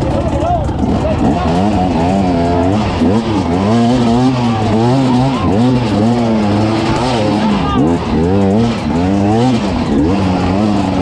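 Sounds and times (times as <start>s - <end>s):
off-road engine revving hard: 0.0s - 11.0s.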